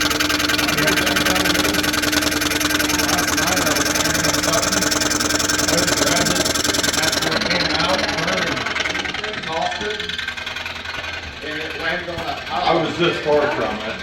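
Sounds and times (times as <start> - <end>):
motor hum: 0.0 - 14.0
scroll saw blade chattering: 0.0 - 14.0.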